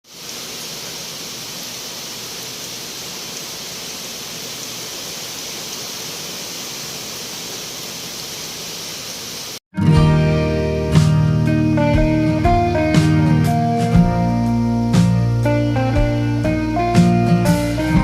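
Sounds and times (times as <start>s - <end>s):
steady hiss of noise: 0.1s - 9.6s, 12.8s - 18.0s.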